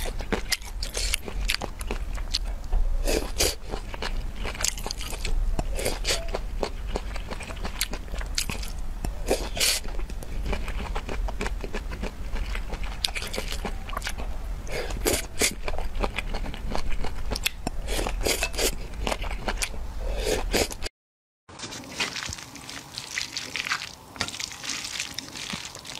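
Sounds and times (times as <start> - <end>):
person chewing and crunching food: 0.0 - 20.9, 21.5 - 25.9.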